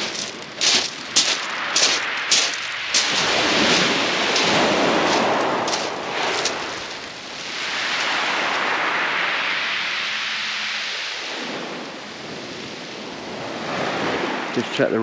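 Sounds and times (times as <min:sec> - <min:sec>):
wave washing over pebbles: 0:00.0 - 0:15.0.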